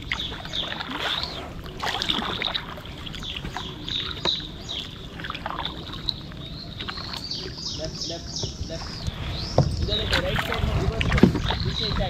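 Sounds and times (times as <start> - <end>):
paddles splashing water: 0.0 - 12.0
water dripping: 0.0 - 12.0.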